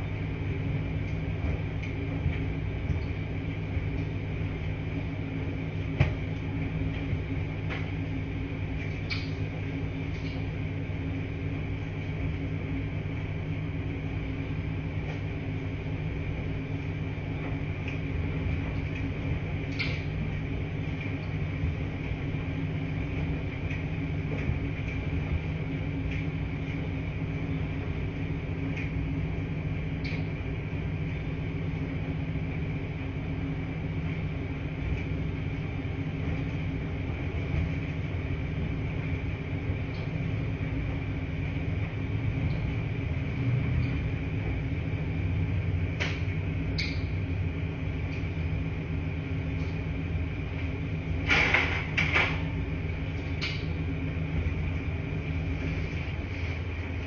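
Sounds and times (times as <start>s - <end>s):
washing machines humming: 0.0s - 57.0s.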